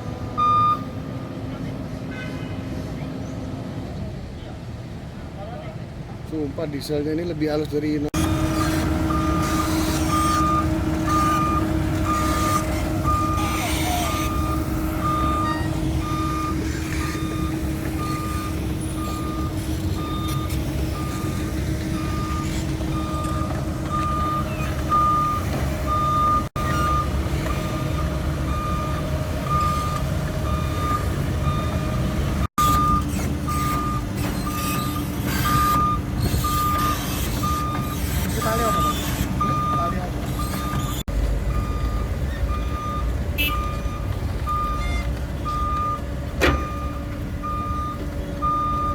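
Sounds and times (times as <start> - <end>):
excavator diesel engine running: 8.1 - 48.9
warning alarm beeping: 8.2 - 48.9.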